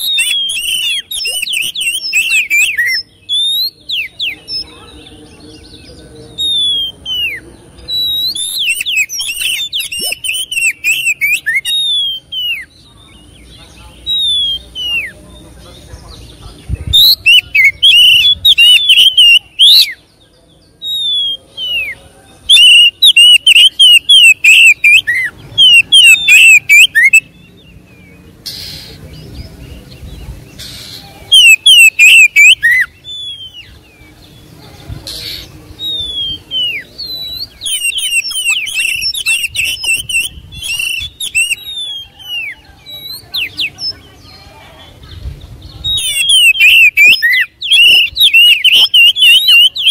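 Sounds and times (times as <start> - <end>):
bird singing whistled notes: 0.0 - 44.5, 45.1 - 49.9.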